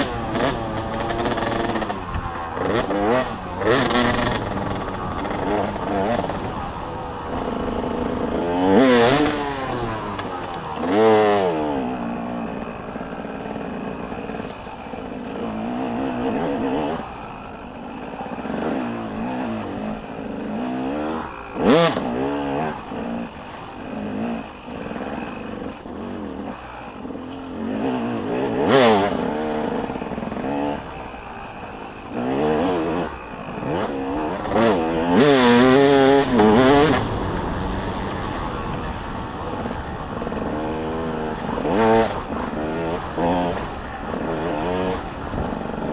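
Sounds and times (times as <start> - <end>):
dirt bike engines revving: 0.0 - 45.9
dirt bikes passing close: 0.0 - 45.9.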